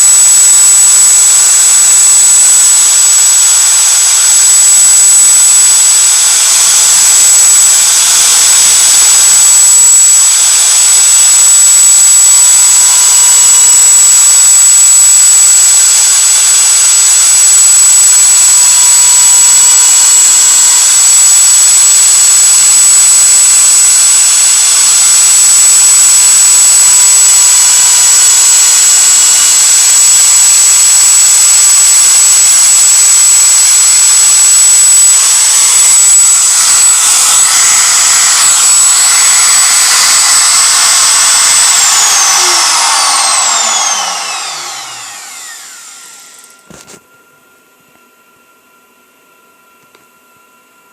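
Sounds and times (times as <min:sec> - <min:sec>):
router carving wood whining: 0:00.0 - 0:47.0.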